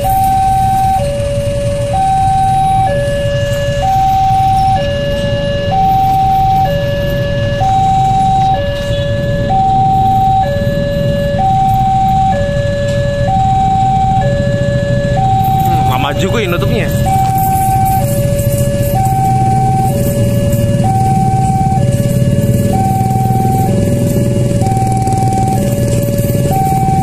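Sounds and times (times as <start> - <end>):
idling road traffic rumble: 0.0 - 27.0
level crossing two-tone alarm: 0.0 - 27.0.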